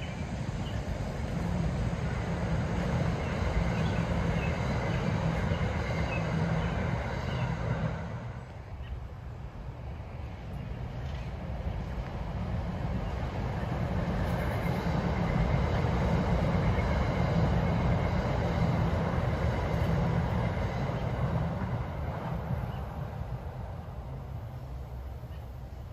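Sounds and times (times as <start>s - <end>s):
commuter train passing: 0.0s - 25.9s.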